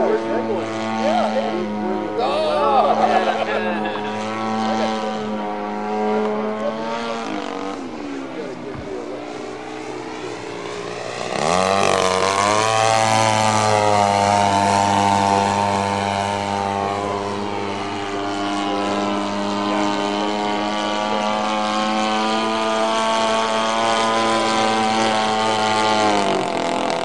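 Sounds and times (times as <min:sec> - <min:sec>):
model plane engine in flight: 0:00.0 - 0:27.0.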